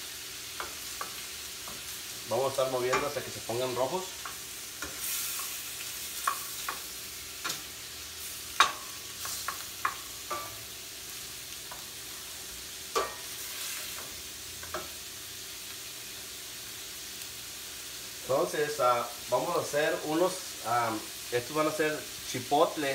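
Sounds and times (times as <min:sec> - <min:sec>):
shrimp sizzling in butter: 0:00.0 - 0:22.9.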